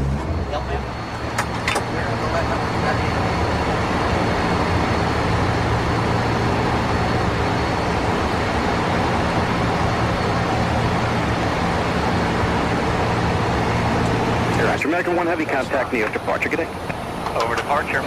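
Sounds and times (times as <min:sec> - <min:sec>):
jet engine noise: 0:00.0 - 0:18.0
low hum: 0:00.0 - 0:18.0.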